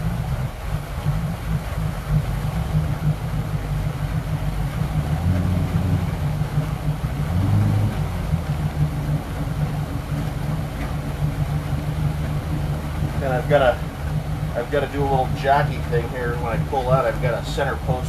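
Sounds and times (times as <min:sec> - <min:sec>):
boat engines idling: 0:00.0 - 0:18.0.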